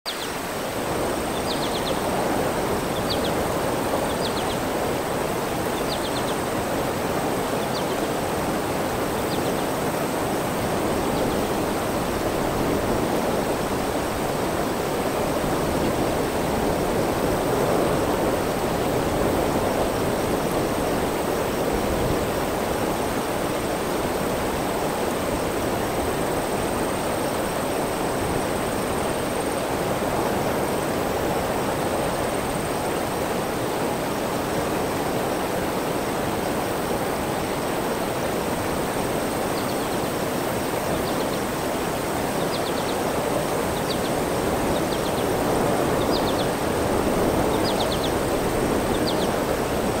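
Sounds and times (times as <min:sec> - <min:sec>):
flowing water rushing: 0:00.1 - 0:50.0.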